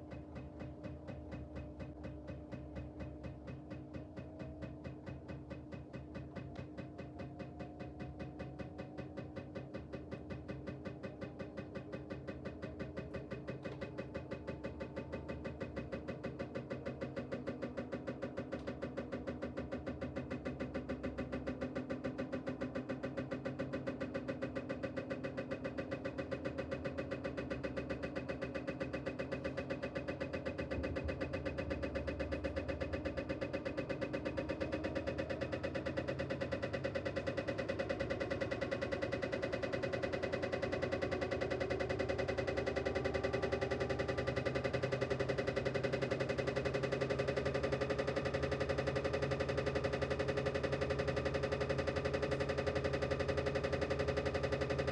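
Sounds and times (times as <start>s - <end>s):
washing machine drum pulsing hum: 0.0s - 54.9s.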